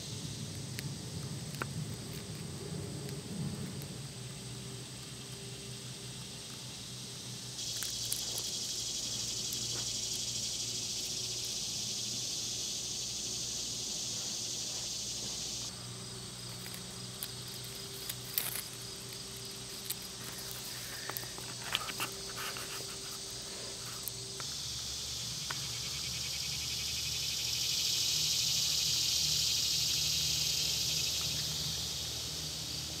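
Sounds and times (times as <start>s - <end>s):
chorus of crickets: 0.0s - 33.0s.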